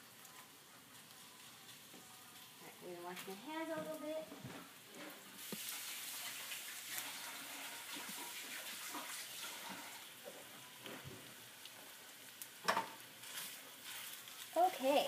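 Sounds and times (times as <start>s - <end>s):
sausage sizzling in oil: 0.0s - 15.0s.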